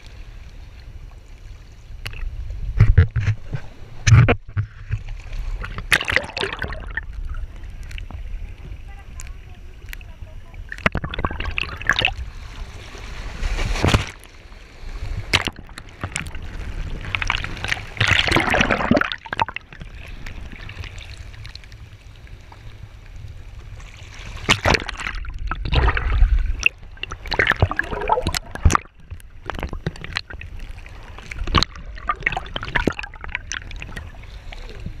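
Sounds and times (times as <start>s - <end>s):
water sloshing and gurgling: 0.0s - 35.0s.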